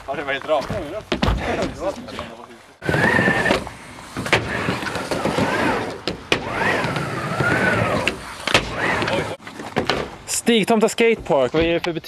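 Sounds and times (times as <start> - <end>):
skate wheels rolling on ramp: 0.1 - 10.2.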